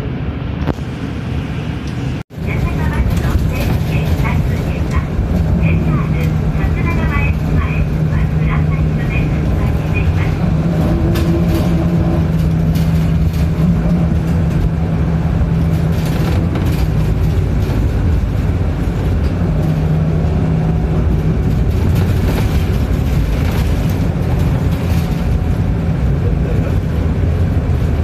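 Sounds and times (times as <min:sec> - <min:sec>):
bus engine rumbling: 0:00.0 - 0:28.0.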